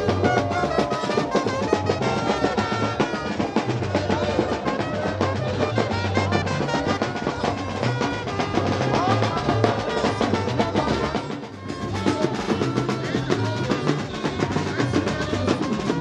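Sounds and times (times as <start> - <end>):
bass drum beat: 0.0 - 16.0
snare drum rolls: 0.0 - 16.0.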